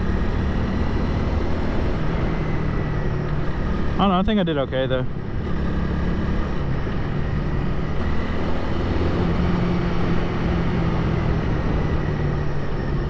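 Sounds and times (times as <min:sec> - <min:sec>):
motorcycle engine cruising: 0:00.0 - 0:13.0
road noise: 0:00.0 - 0:13.0.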